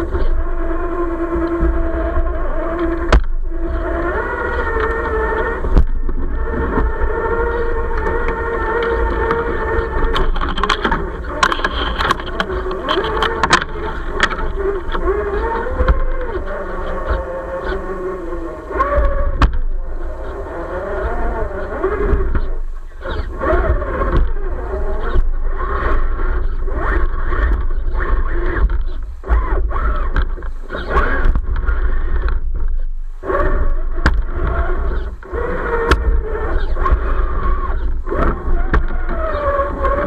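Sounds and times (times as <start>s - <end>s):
low rumble: 0.0s - 40.0s
scrapes and knocks on rough ground: 0.0s - 40.0s
toy truck motor whining: 0.0s - 40.0s.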